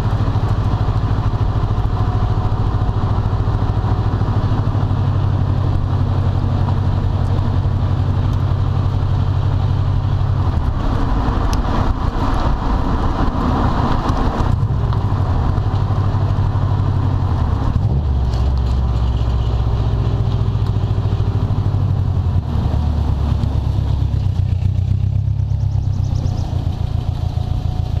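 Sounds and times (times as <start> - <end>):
turbocharged car engine: 0.0 - 28.0.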